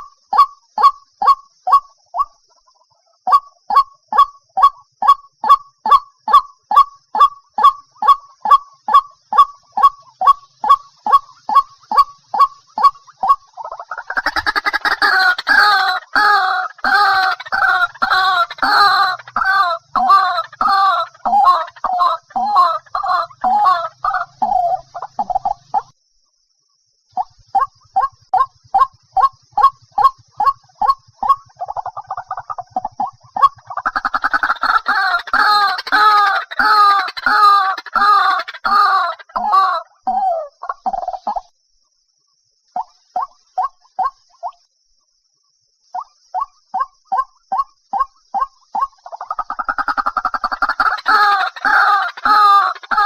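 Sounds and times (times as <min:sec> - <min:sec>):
waterhen calling: 0:03.3 - 0:25.9, 0:27.2 - 0:41.4, 0:46.4 - 0:53.0.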